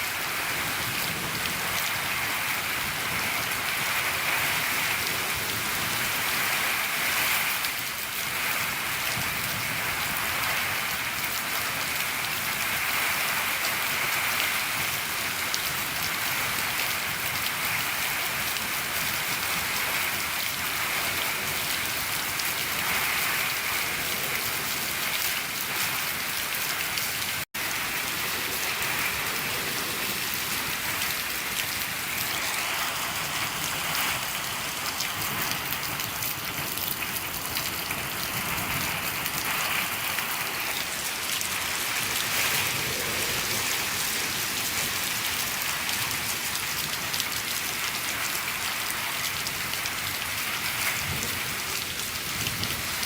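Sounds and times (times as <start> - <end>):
heavy rain on a shed roof: 0.0 - 53.0.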